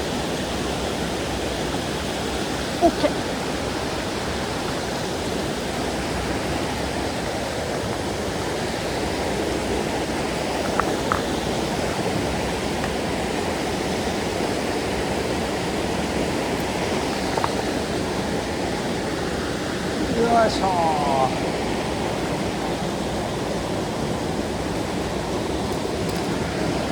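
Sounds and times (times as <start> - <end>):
stream water rushing: 0.0 - 26.9.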